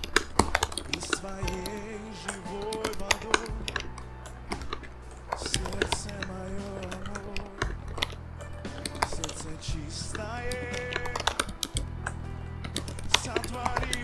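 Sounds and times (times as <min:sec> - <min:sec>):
music playing: 0:00.0 - 0:14.0.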